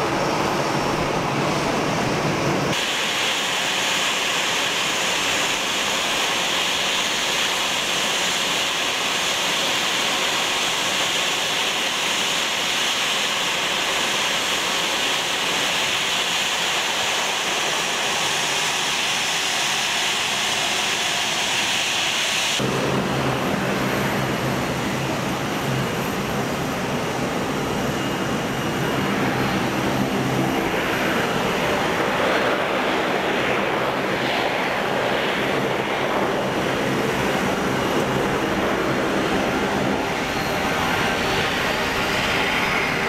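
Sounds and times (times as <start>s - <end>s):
deep jet engine hum: 0.0s - 43.0s
jet engines hissing: 0.0s - 43.0s.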